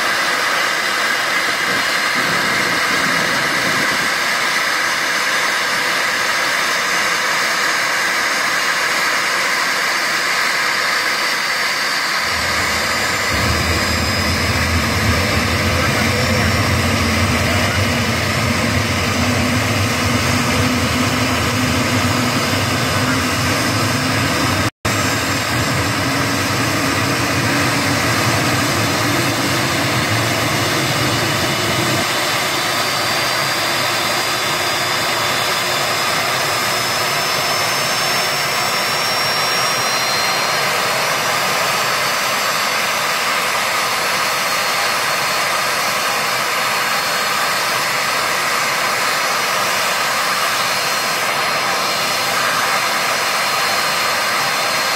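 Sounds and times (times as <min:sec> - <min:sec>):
high turbine whine: 0:00.0 - 0:54.9
jet engines running: 0:00.0 - 0:54.9.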